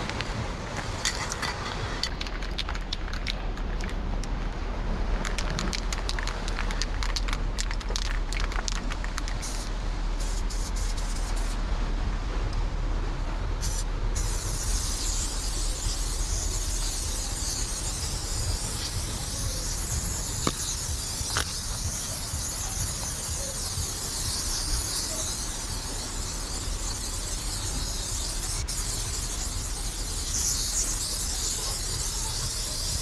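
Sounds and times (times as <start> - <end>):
low rumble: 0.0 - 33.0
spray paint can hissing: 0.8 - 3.9, 5.2 - 11.6, 13.6 - 33.0.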